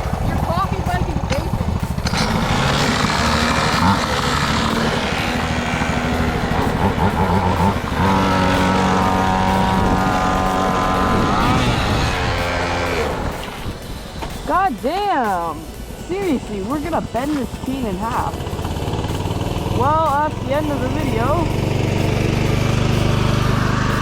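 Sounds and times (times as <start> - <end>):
small two-stroke engine revving: 0.0 - 14.6, 16.1 - 24.0.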